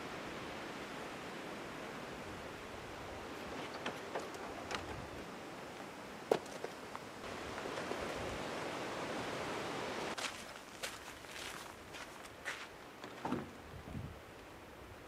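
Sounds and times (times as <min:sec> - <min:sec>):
strong wind through trees: 0:00.0 - 0:15.0.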